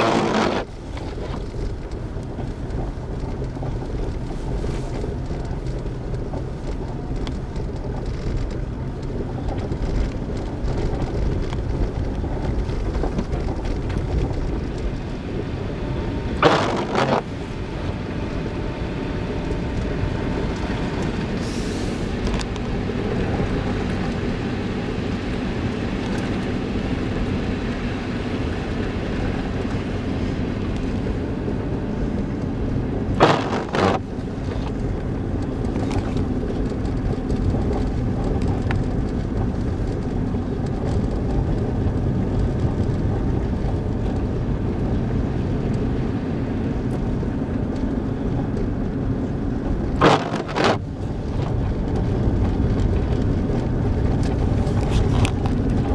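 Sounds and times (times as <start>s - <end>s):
car road and engine noise: 0.0s - 55.9s.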